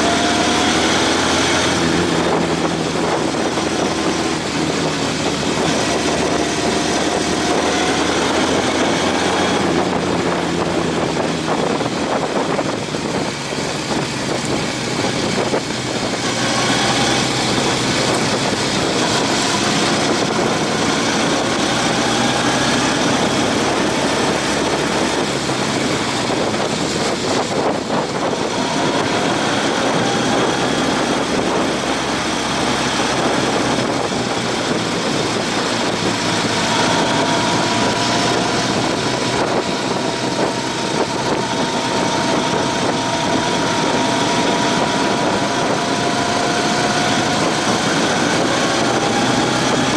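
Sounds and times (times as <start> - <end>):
motorcycle engine running: 0.0 - 49.9
wind rush on microphone: 0.0 - 49.9.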